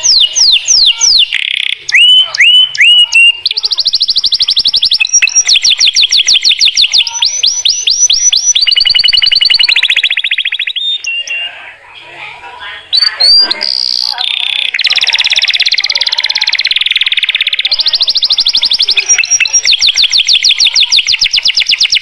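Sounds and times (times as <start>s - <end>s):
canary singing trills: 0.0s - 11.9s, 12.6s - 22.0s.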